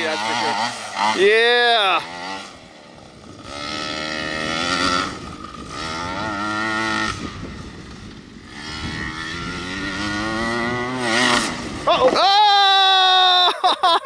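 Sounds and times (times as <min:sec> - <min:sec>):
small two-stroke engine revving: 0:00.0 - 0:13.3.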